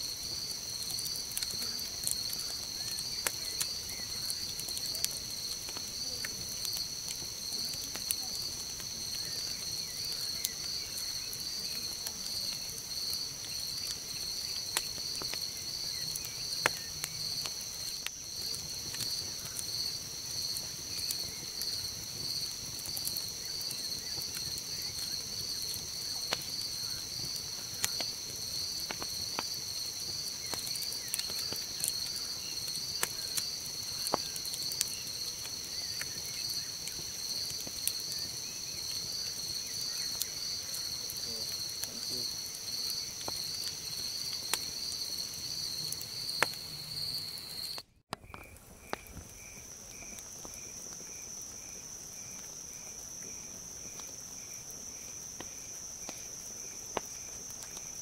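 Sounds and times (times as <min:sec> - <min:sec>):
campfire crackling: 0:00.0 - 0:58.0
crickets chirping: 0:00.0 - 0:58.0.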